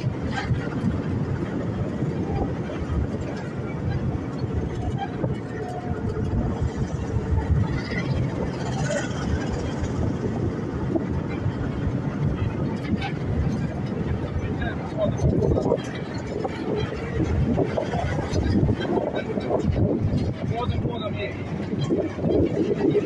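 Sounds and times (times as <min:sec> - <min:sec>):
vehicle engine rumble: 0:00.0 - 0:23.0
wind noise on microphone: 0:00.0 - 0:23.0.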